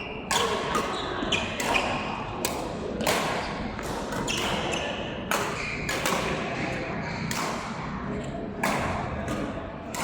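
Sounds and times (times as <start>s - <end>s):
rackets hitting shuttlecock: 0.0s - 10.0s.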